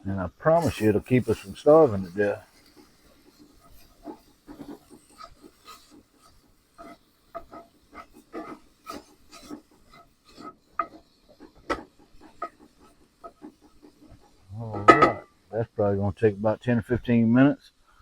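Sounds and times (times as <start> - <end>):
utensil scraping meat in skillet: 0.5 - 15.6.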